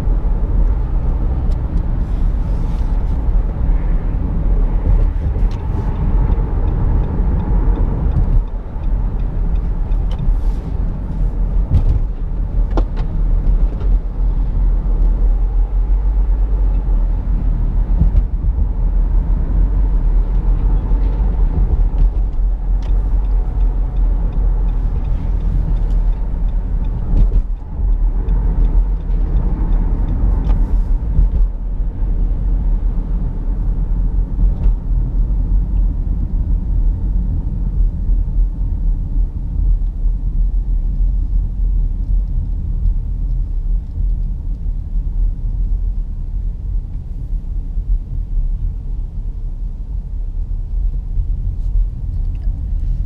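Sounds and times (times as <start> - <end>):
road and tyre noise: 0.0 - 53.0.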